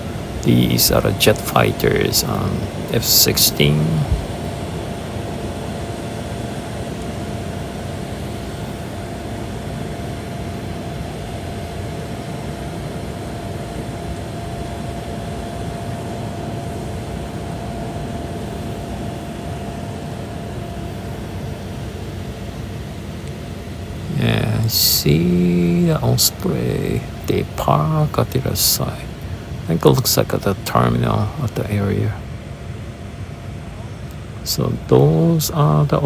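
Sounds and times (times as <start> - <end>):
machinery drone with high hum: 0.0 - 36.0.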